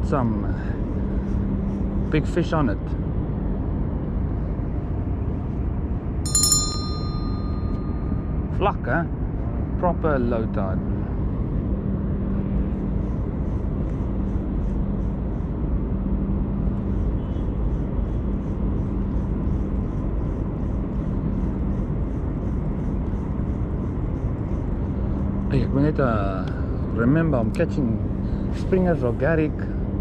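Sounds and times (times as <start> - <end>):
low rumble with hum: 0.0 - 30.0.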